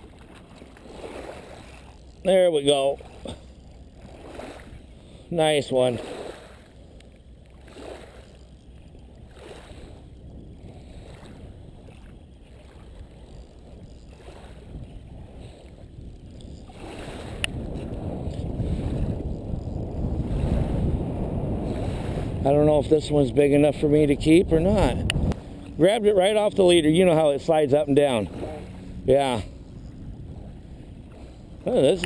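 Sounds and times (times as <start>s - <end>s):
lapping shore water: 0.0s - 32.0s
wind rumbling on microphone: 0.0s - 32.0s.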